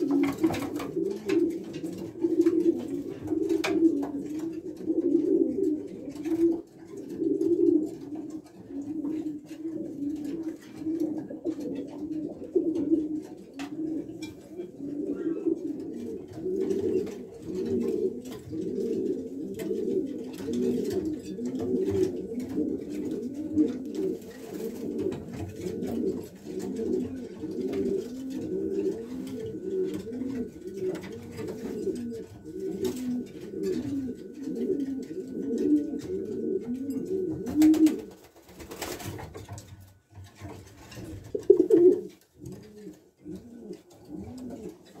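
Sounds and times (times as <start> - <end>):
pigeons cooing: 0.0 - 45.0.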